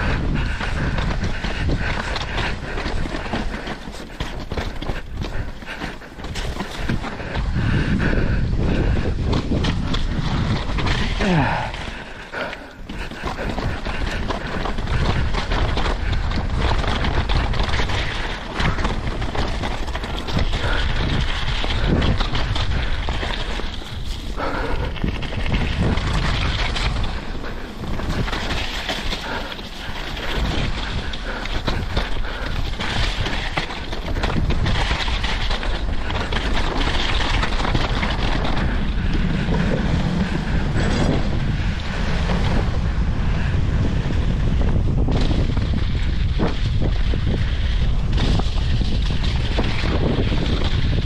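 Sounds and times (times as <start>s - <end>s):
bike rattling over rock and gravel: 0.0s - 51.0s
wind noise on microphone: 0.0s - 51.0s.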